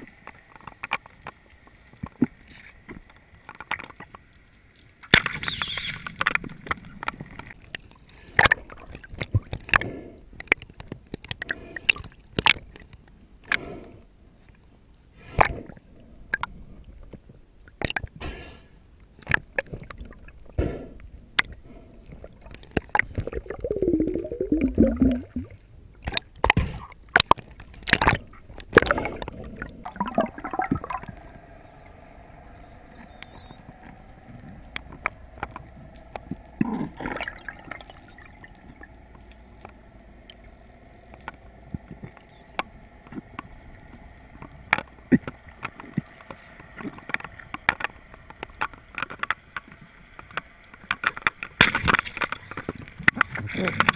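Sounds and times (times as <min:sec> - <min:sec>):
water gurgling and sloshing: 0:00.0 - 0:18.2, 0:19.1 - 0:53.9.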